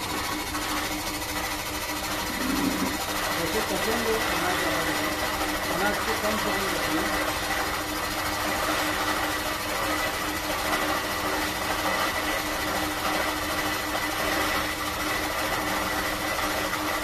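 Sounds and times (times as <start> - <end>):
flour mill grinding grain: 0.0 - 17.0
mechanical hum with high whine: 0.0 - 17.0.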